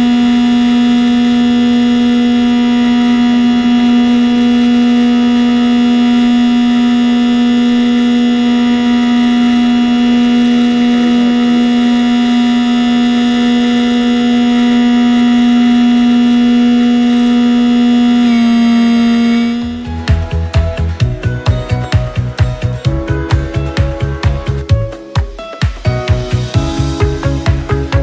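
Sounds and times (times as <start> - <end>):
drone motor and propeller buzzing: 0.0 - 28.0.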